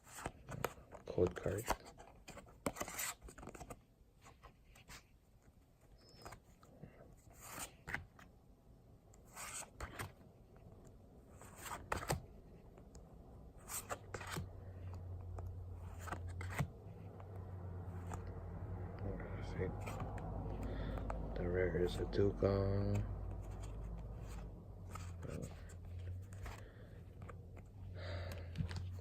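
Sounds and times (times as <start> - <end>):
trading cards swishing and rustling: 0.0 - 8.3, 9.2 - 18.5, 19.2 - 29.0.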